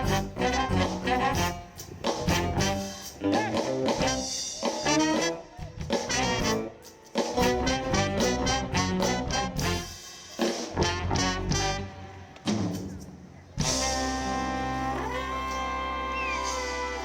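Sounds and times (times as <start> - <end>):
soul band with horn section: 0.0 - 17.0.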